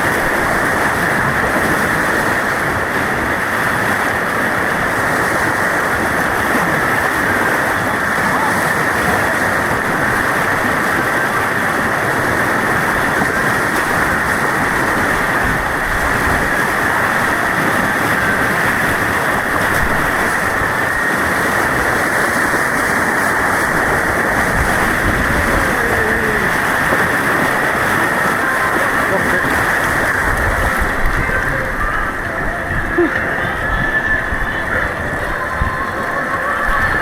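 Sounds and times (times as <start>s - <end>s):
white water rushing: 0.0s - 37.0s.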